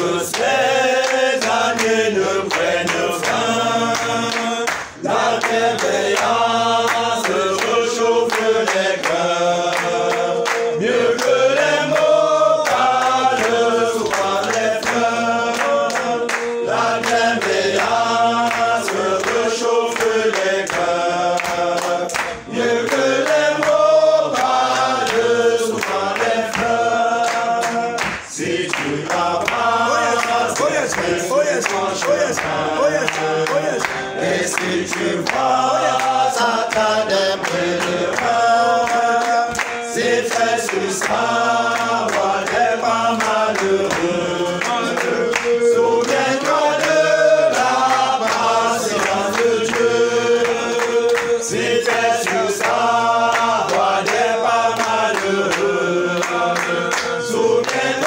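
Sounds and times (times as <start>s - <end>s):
men singing a hymn: 0.0s - 58.0s.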